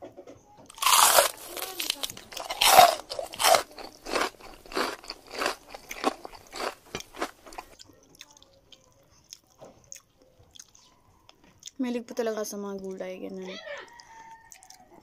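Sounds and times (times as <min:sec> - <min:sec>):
chewing crunchy shrimp: 0:00.7 - 0:11.8, 0:13.8 - 0:15.0.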